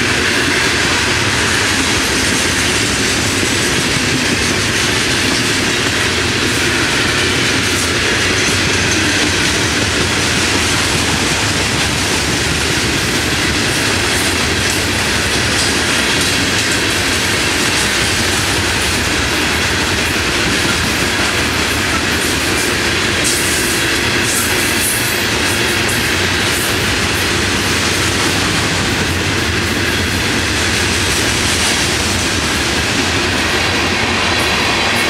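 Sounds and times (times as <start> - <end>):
freight train rolling past: 0.0 - 35.0.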